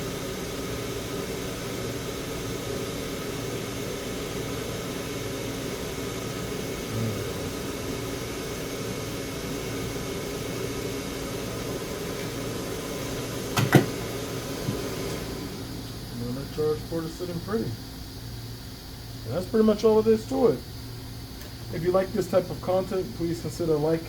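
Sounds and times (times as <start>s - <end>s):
fan blowing hiss with hum: 0.0s - 24.0s.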